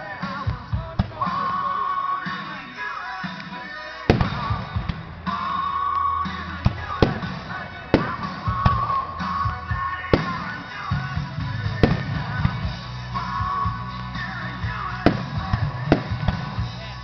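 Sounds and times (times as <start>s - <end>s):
fireworks bangs: 0.0s - 2.8s, 3.4s - 13.9s, 14.6s - 17.0s
rock music with guitar: 0.0s - 17.0s.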